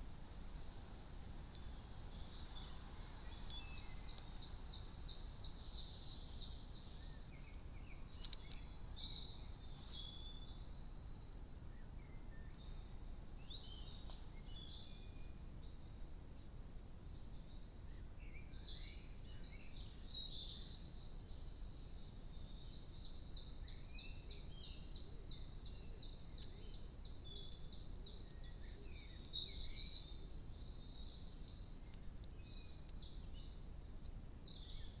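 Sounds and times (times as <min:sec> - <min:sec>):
songbirds calling and singing: 0:00.0 - 0:35.0.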